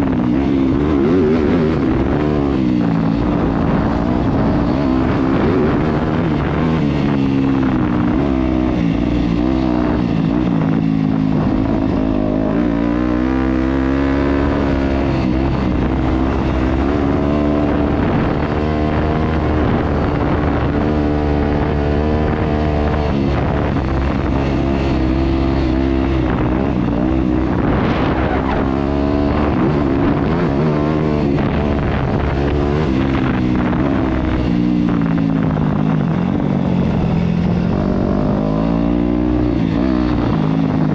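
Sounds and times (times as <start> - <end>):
dirt bike engine running hard: 0.0 - 40.9.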